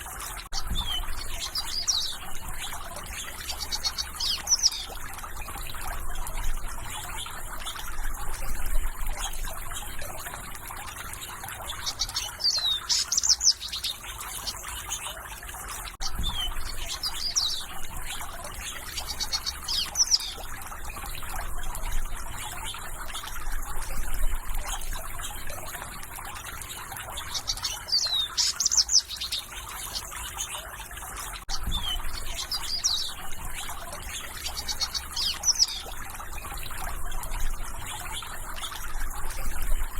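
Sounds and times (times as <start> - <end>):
songbirds singing: 0.0 - 39.9
water trickling: 0.0 - 39.9.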